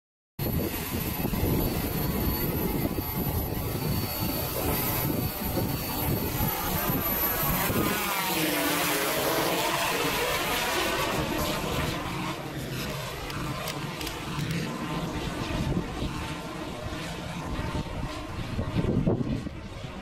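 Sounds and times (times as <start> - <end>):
drone propellers rumbling: 0.4 - 20.0.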